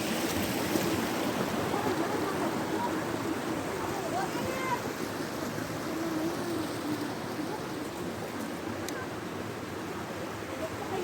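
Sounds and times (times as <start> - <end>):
flowing stream water: 0.0 - 11.0.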